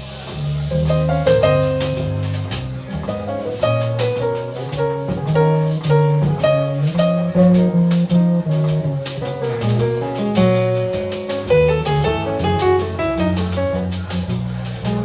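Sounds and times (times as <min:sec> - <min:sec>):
drum kit: 0:00.0 - 0:15.0
walking bass line: 0:00.0 - 0:15.0
plucked guitar melody: 0:00.7 - 0:15.0.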